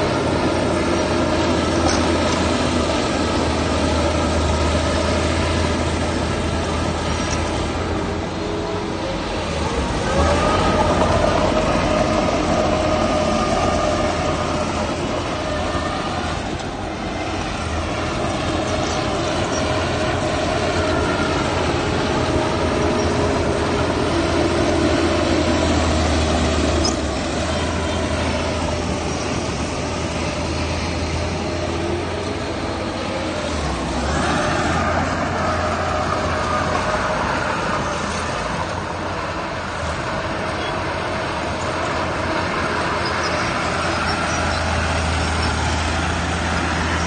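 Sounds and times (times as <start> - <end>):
heavy diesel machinery running: 0.0 - 47.0.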